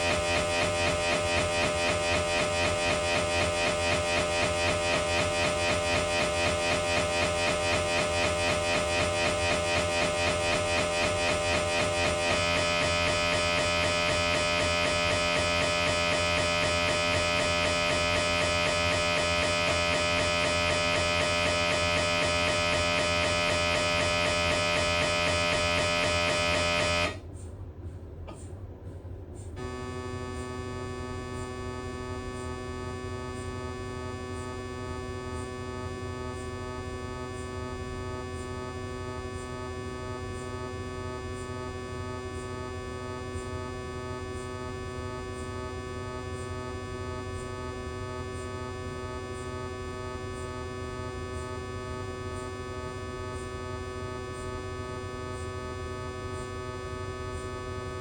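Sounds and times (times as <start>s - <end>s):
loud pulsing scanner sequence: 0.0s - 27.2s, 29.6s - 58.0s
multi-tone humming drone: 0.0s - 27.4s, 29.3s - 58.0s.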